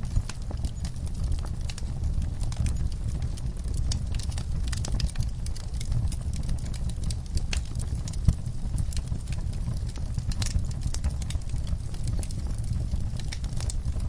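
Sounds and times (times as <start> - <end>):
fireplace fire crackling: 0.0 - 14.0
sharp pops of fire: 0.0 - 14.0.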